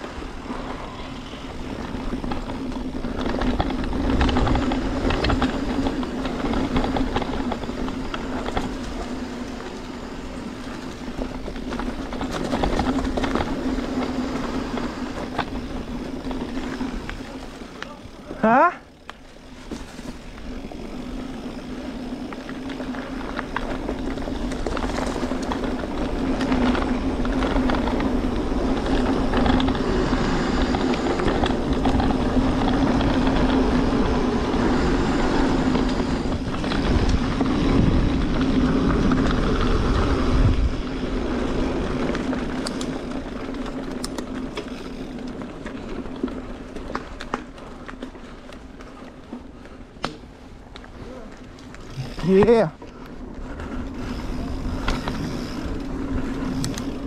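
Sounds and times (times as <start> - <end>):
wind noise: 0.0 - 18.6, 22.2 - 48.5, 50.4 - 57.0
bike tyres rolling on dirt: 0.0 - 57.0.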